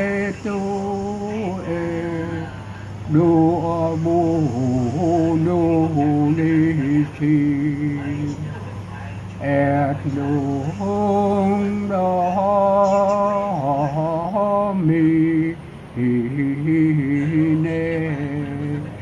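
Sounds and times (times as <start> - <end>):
man singing chant unaccompanied: 0.0 - 19.0.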